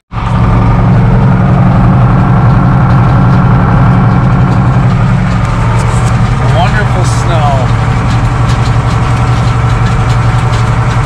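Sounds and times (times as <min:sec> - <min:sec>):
tractor engine running: 0:00.1 - 0:11.0.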